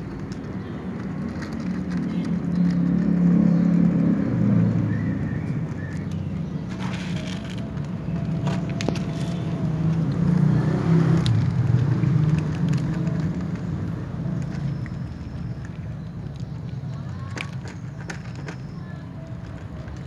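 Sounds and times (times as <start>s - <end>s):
cat crunching dry kibble: 0.0s - 4.5s, 5.7s - 20.0s.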